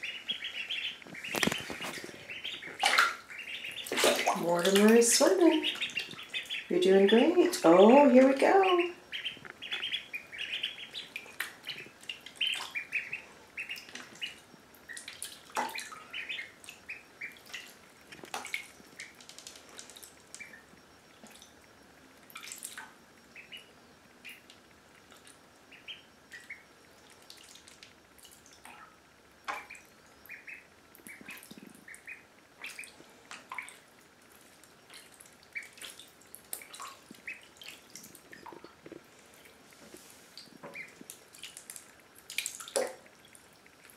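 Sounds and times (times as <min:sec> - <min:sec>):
ducklings peeping: 0:00.0 - 0:39.5, 0:40.6 - 0:43.9
water splashes and drips: 0:00.1 - 0:20.5, 0:21.1 - 0:23.0, 0:26.3 - 0:29.9, 0:30.9 - 0:43.9.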